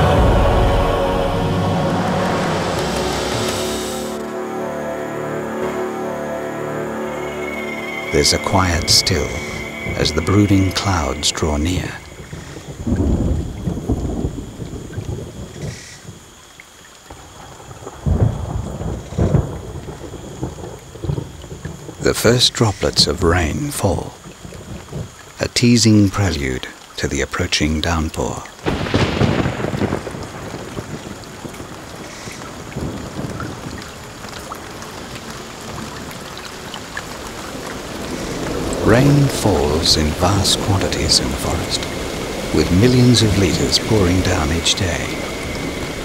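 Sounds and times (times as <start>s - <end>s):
thunder rumbling: 0.0s - 4.8s, 6.8s - 16.2s, 17.1s - 25.2s, 28.6s - 46.0s
rain falling on a pool: 0.0s - 46.0s.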